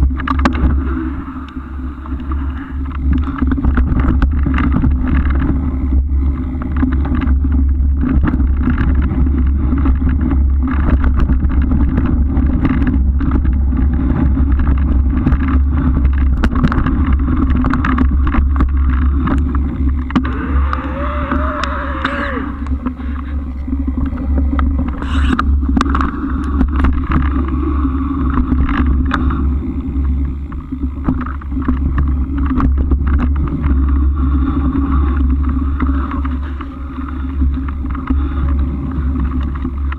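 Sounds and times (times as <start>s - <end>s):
small rattles and clicks: 0.0s - 39.9s
wind buffeting: 0.0s - 39.9s.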